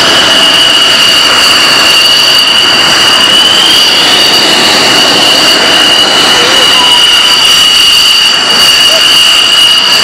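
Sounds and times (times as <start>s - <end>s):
jet engine rushing and whining: 0.0s - 10.0s.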